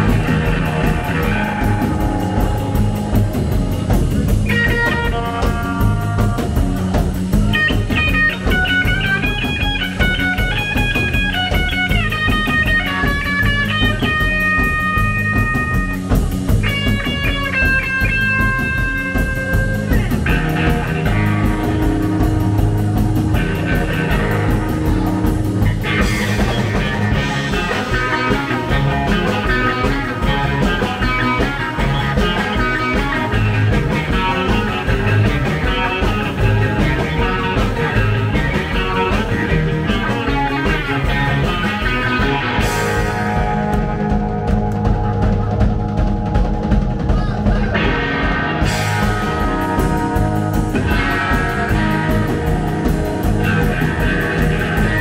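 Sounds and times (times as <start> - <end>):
rock band playing: 0.0 - 55.0
steady drum beat: 0.0 - 55.0.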